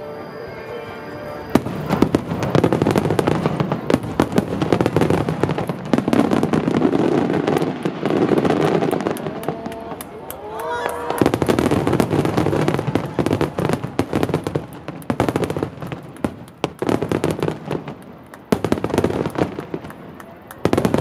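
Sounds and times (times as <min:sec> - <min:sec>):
fireworks bangs and crackling: 0:01.0 - 0:10.2, 0:10.8 - 0:21.0.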